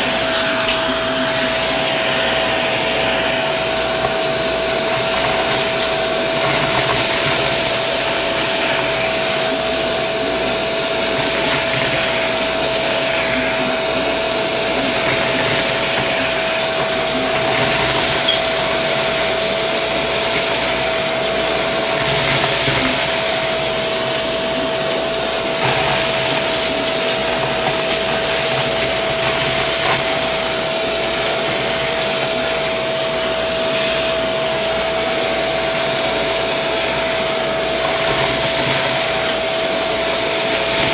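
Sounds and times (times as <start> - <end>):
vacuum cleaner whining: 0.0 - 40.9.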